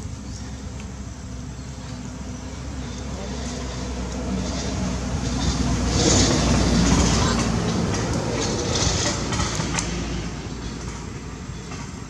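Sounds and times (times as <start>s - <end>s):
passing motor vehicle rumble: 0.0s - 12.0s.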